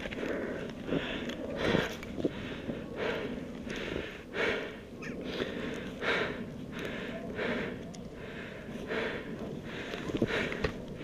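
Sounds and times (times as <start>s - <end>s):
person panting: 0.0s - 11.0s.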